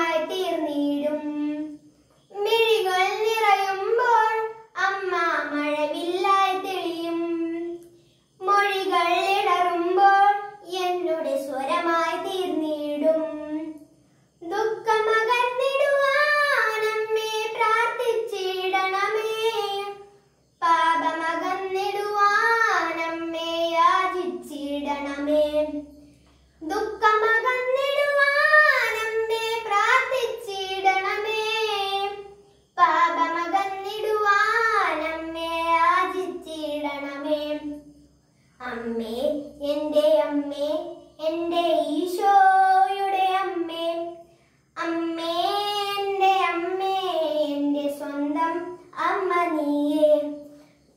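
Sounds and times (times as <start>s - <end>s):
boy singing a hymn: 0.0s - 26.0s, 26.6s - 37.8s, 38.6s - 50.5s.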